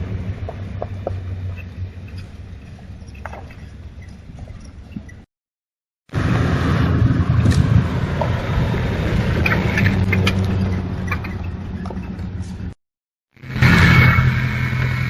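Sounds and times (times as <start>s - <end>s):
road noise: 0.0s - 5.3s, 6.1s - 15.0s
vehicle engine hum: 0.0s - 5.3s, 6.1s - 12.8s, 13.4s - 15.0s.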